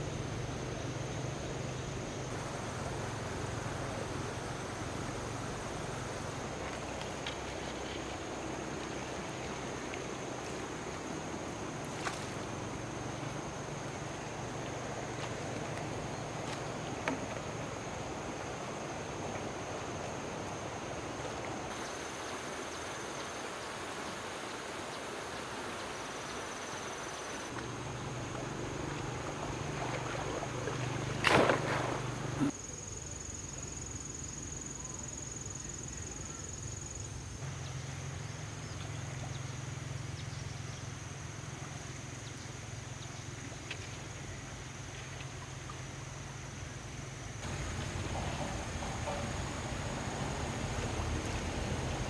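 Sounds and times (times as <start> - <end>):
insects calling: 0.0 - 52.0.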